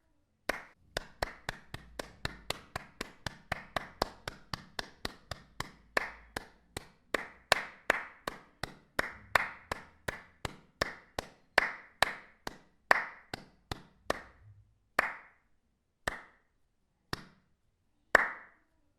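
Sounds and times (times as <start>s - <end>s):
hand claps: 0.5s - 16.5s, 17.1s - 17.5s, 18.1s - 18.6s.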